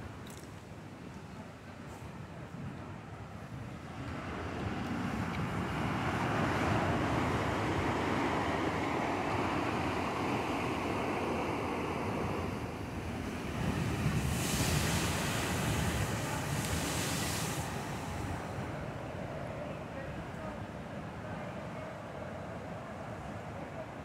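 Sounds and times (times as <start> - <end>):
wind: 0.0 - 24.0
ocean surf: 3.2 - 24.0.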